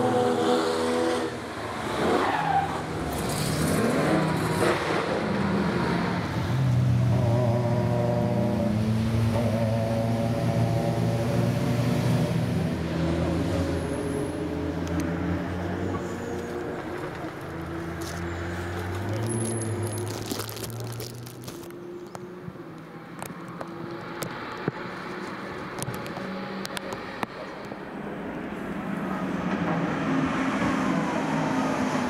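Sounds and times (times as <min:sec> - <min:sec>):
race car engines running: 0:00.0 - 0:32.0.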